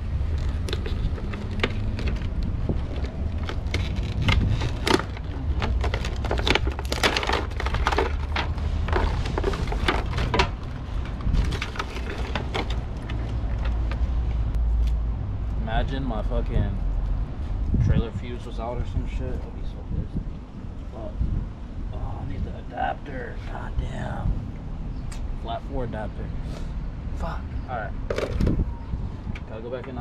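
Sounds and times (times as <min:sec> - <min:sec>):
steady low rumble: 0:00.0 - 0:29.4.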